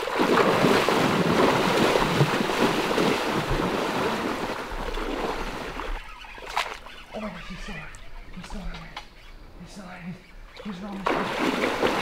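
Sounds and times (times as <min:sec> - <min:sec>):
person wading through river water: 0:00.0 - 0:08.7, 0:10.3 - 0:12.0.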